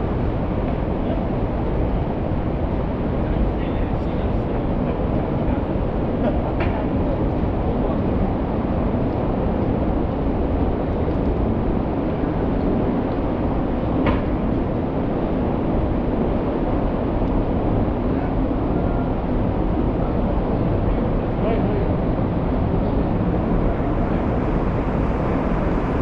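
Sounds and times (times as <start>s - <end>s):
city street traffic rumble: 0.0s - 26.0s.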